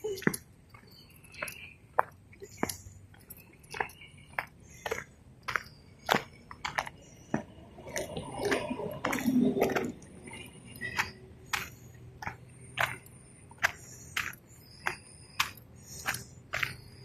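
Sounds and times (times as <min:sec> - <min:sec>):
crunchy footsteps: 0:00.0 - 0:17.0.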